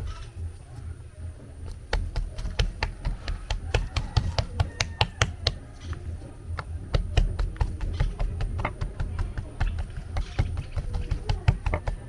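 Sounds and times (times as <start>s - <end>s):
knocking and tapping from food preparation: 1.6s - 12.0s.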